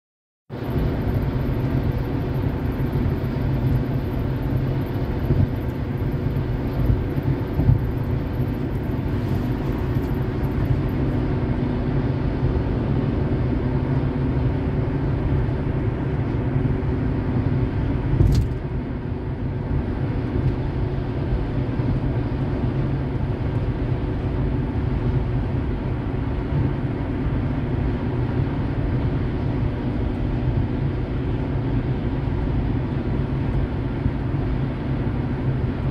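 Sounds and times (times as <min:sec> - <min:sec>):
car interior road rumble: 0:00.5 - 0:35.9.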